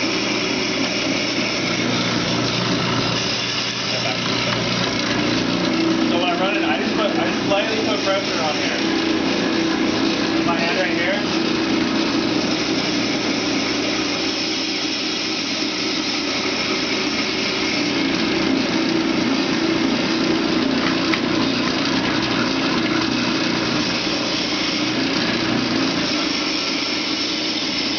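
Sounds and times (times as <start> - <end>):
ice shaver motor running: 0.0 - 27.9.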